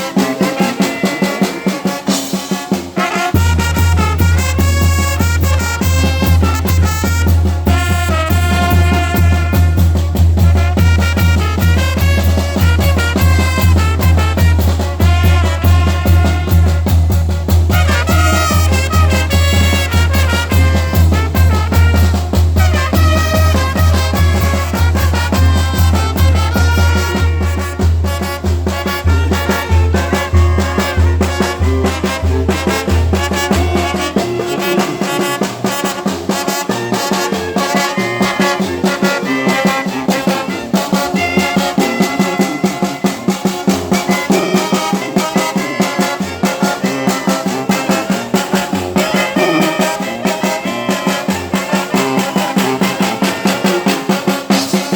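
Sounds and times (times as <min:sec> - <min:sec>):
brass band playing upbeat tune: 0:00.0 - 0:54.9.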